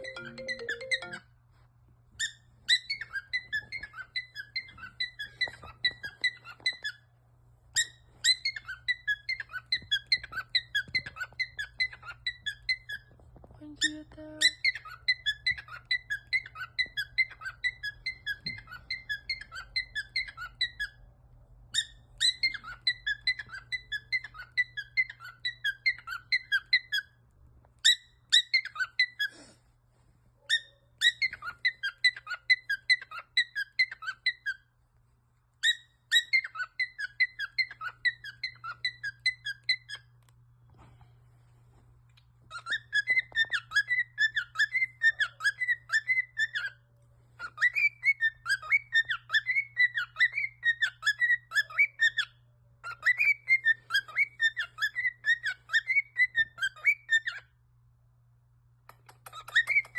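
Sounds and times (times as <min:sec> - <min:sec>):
bird squeaky chirps: 0:00.0 - 0:01.3, 0:02.2 - 0:21.1, 0:21.7 - 0:27.2, 0:27.8 - 0:29.5, 0:30.4 - 0:34.7, 0:35.6 - 0:40.2, 0:42.4 - 0:57.6, 0:58.9 - 0:59.9.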